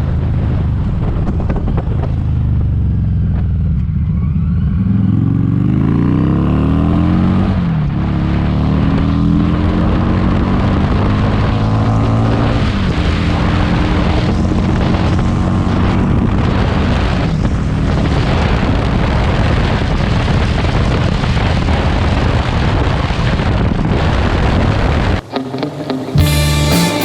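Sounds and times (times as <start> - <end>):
wind rushing over microphone: 0.0 - 25.4.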